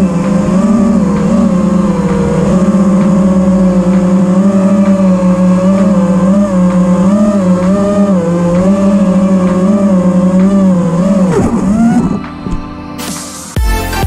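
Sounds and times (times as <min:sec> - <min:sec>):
drone motors whining: 0:00.0 - 0:13.6.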